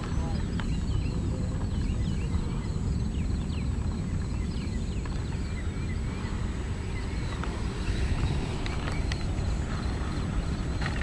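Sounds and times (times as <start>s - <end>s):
small birds chirping: 0.0s - 11.0s
wind buffeting microphone: 0.0s - 11.0s.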